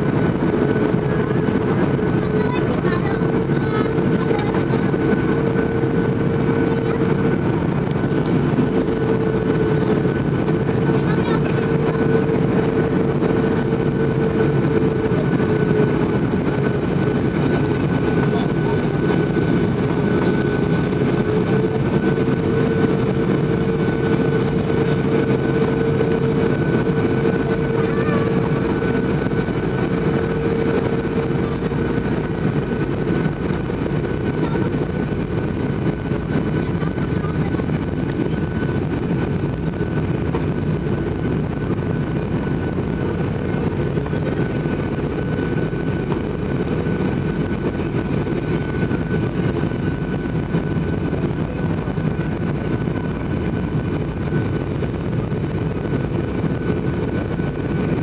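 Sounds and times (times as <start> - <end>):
airplane cabin engine noise: 0.0 - 58.0
low hum: 0.0 - 58.0
steady whine: 0.0 - 58.0.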